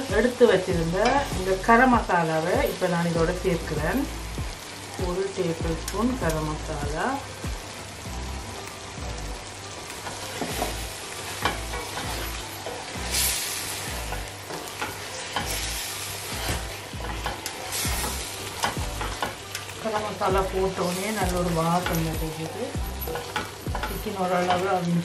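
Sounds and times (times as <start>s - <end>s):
chicken sizzling in a pot: 0.0s - 25.0s.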